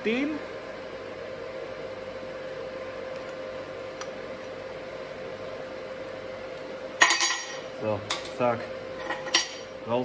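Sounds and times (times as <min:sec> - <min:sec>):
machine hum and hiss: 0:00.0 - 0:10.0.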